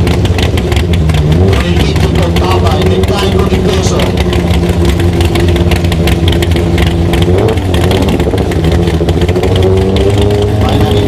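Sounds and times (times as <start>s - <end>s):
drag racing engine rumbling: 0.0s - 11.0s.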